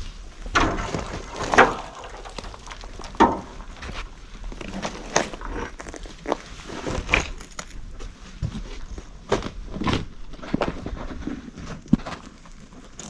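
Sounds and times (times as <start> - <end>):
footsteps crunching on rubble: 0.8 - 13.0.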